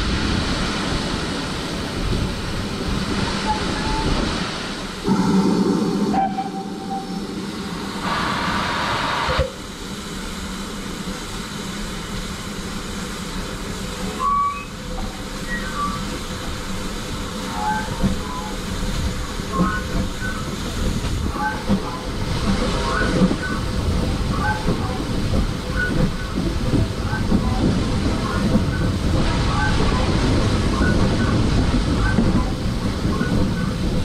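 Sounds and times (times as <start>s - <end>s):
steam locomotive hissing steam: 0.0s - 34.0s
train rumbling: 0.0s - 34.0s.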